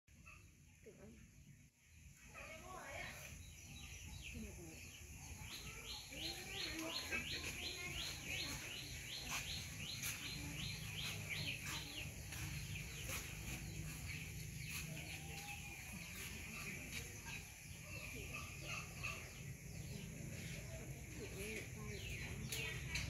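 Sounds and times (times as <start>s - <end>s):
bird chirping: 0.1s - 23.0s.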